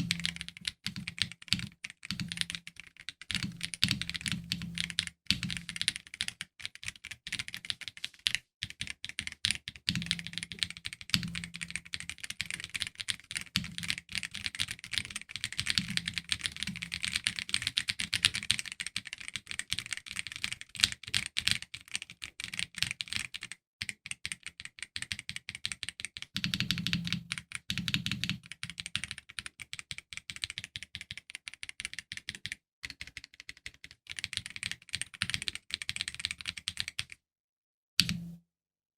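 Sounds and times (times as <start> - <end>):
mechanical keyboard typing: 0.0 - 37.2.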